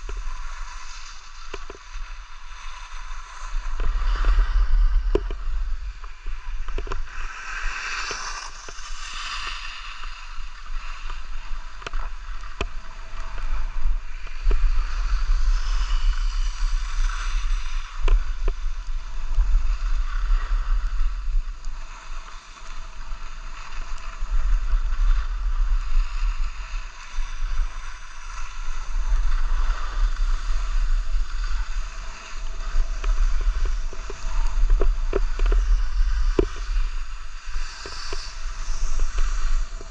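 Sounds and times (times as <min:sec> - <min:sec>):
skis scraping over snow: 0:00.0 - 0:39.9
wind buffeting microphone: 0:00.0 - 0:39.9.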